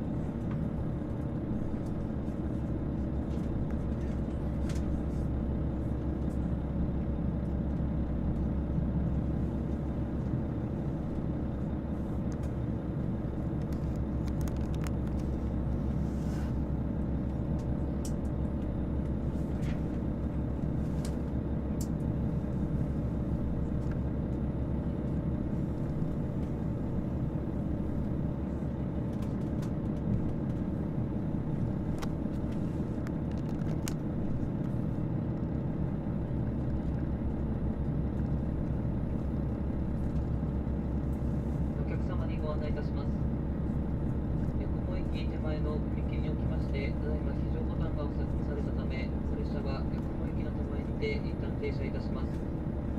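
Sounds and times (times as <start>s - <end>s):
diesel railcar engines idling: 0.0s - 52.9s.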